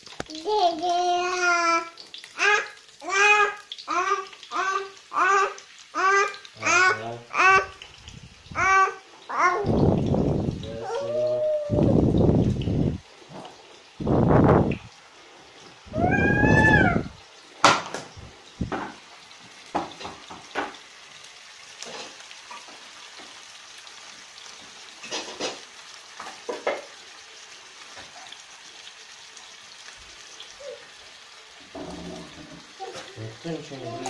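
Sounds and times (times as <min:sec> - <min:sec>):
liver sizzling in a pan: 0:00.0 - 0:34.0.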